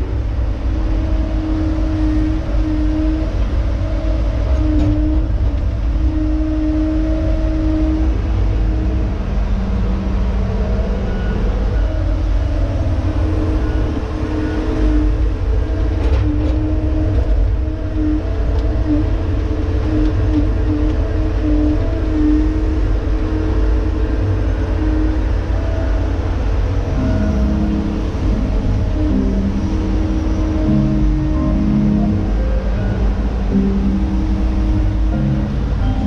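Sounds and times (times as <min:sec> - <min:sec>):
diesel engine and hydraulics: 0:00.0 - 0:36.0.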